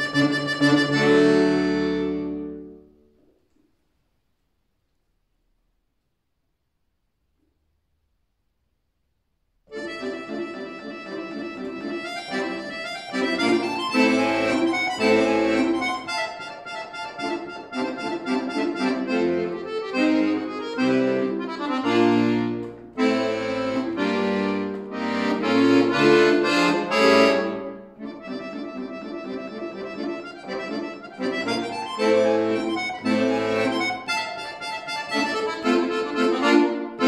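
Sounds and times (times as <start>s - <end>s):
piano accordion playing: 0.0s - 3.0s, 9.7s - 37.0s.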